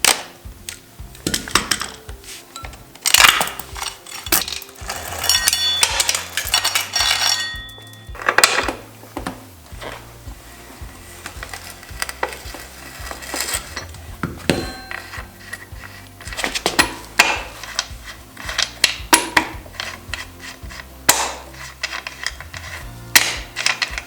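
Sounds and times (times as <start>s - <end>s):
background music: 0.0s - 24.0s
metal tools clinking: 1.2s - 10.0s, 11.2s - 24.0s.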